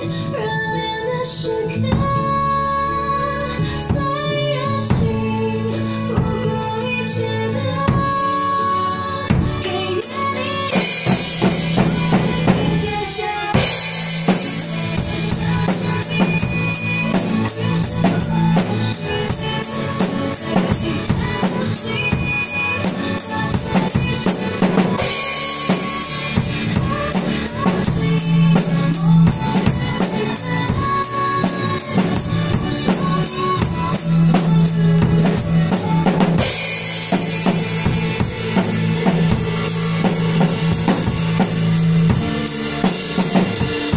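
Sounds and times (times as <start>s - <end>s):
drum kit pop beat: 3.6s - 7.0s, 7.8s - 43.9s.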